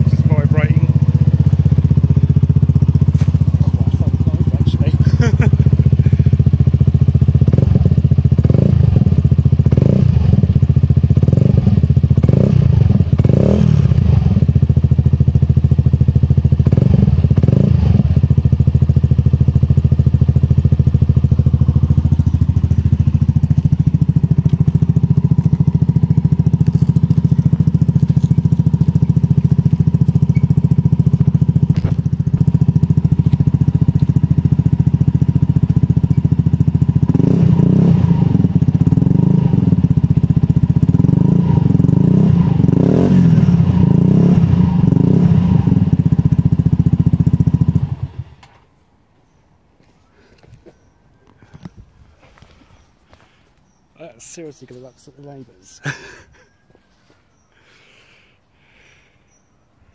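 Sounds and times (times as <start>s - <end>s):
scooter engine idling: 0.0s - 48.4s
scooter engine throttle blips: 0.0s - 48.6s.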